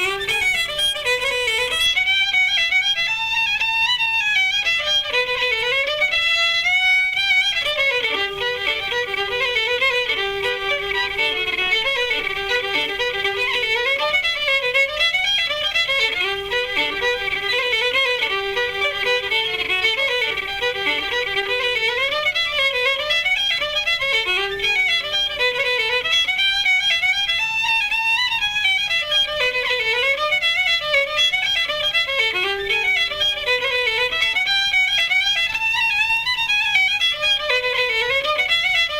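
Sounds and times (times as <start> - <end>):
fiddle playing fast folk tune: 0.0 - 38.9.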